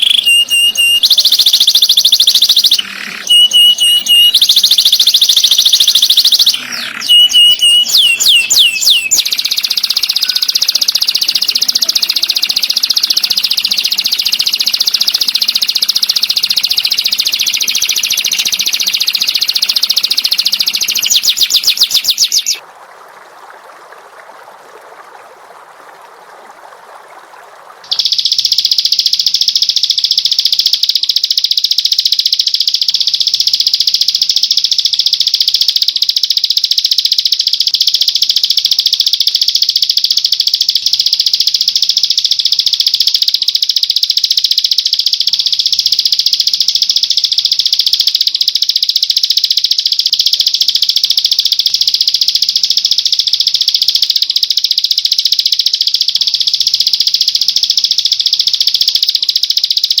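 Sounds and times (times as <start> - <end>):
songbird trilling: 0.0 - 22.6, 27.9 - 60.0.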